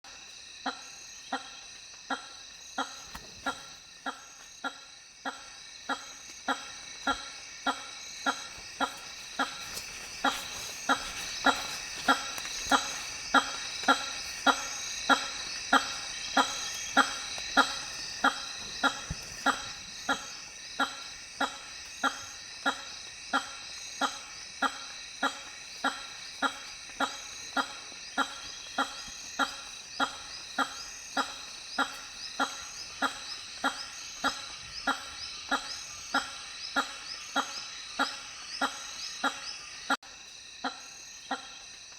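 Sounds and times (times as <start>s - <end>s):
high insect chorus: 0.0s - 41.9s.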